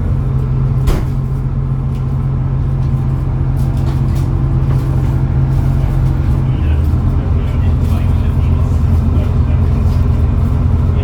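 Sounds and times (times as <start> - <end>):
railcar diesel drone: 0.0 - 11.0.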